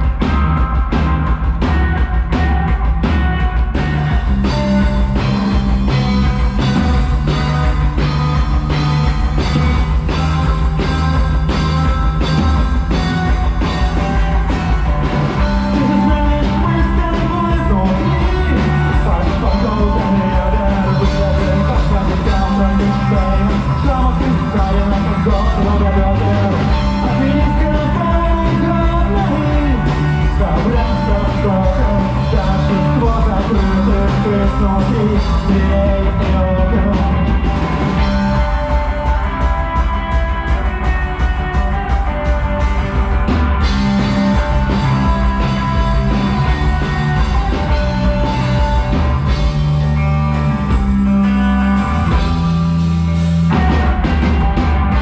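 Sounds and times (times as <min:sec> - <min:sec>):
drum beat: 0:00.0 - 0:51.1
rock band playing live: 0:00.0 - 0:55.0.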